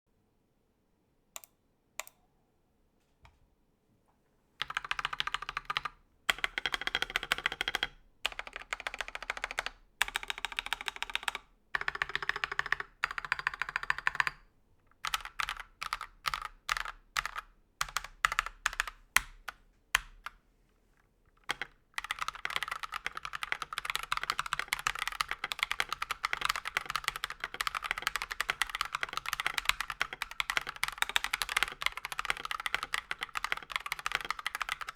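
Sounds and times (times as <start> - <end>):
mechanical keyboard typing: 1.4 - 2.2, 4.6 - 14.4, 15.0 - 20.3, 21.4 - 34.9.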